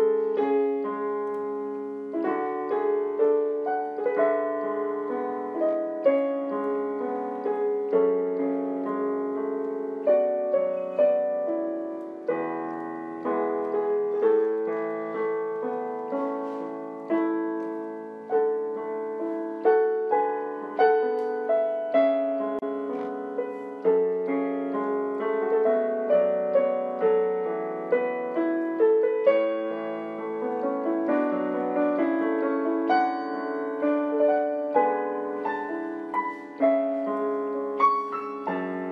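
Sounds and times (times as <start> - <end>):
slow piano music: 0.0 - 38.9.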